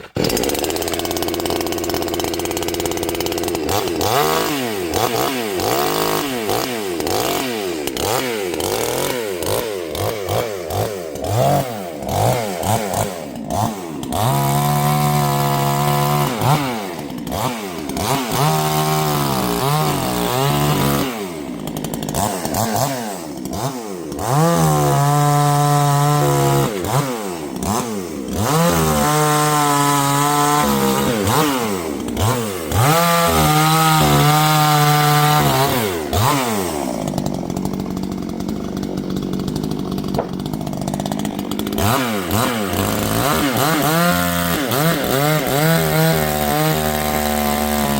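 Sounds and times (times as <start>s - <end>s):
chainsaw idling and revving: 0.0s - 47.9s.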